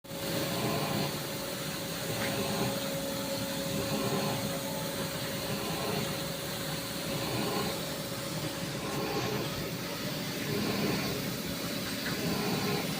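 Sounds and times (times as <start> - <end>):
machining centre running: 0.1 - 12.9.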